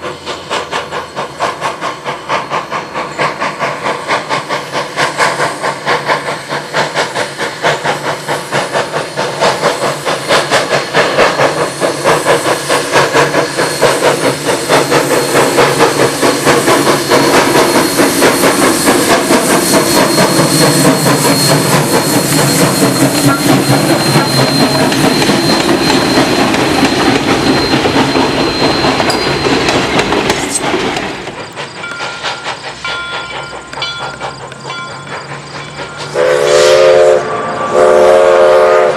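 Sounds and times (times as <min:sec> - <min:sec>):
hissing steam: 0:00.0 - 0:38.9
steam locomotive exhaust chuffs: 0:00.0 - 0:38.9.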